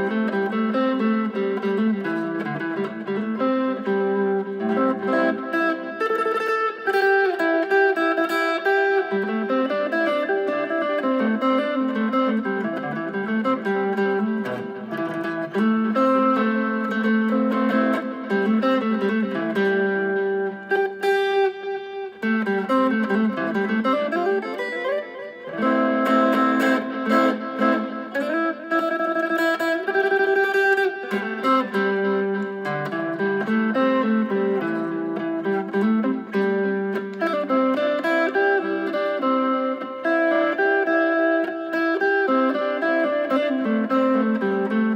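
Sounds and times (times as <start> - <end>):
electric guitar melody: 0.0 - 44.9.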